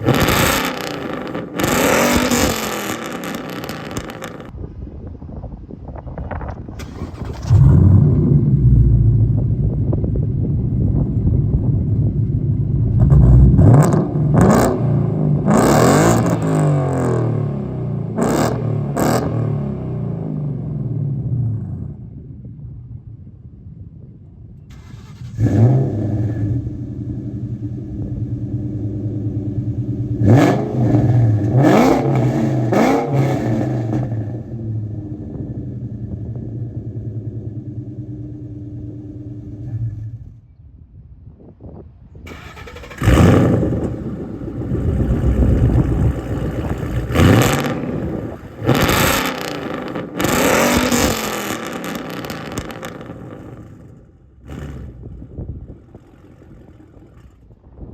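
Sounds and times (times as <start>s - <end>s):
car engine barking and revving hard: 0.0s - 4.5s, 6.8s - 22.2s, 24.7s - 40.3s, 42.3s - 57.5s
car engine burbling and revving: 0.0s - 4.6s, 6.8s - 22.4s, 24.7s - 40.4s, 42.3s - 57.6s.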